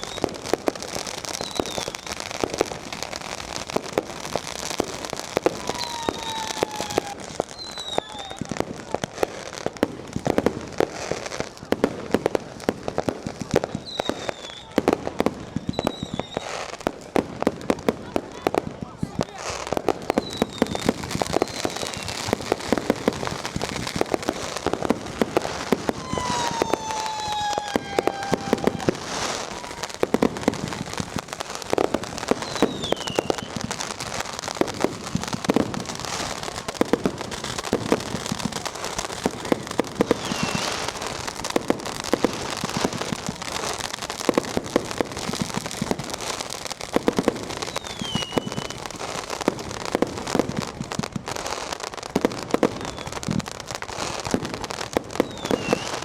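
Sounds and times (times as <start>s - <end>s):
whistling fireworks shrieking: 0.0s - 18.0s, 18.6s - 56.0s
firecrackers crackling: 0.0s - 56.0s
loud firework bangs: 0.0s - 56.0s.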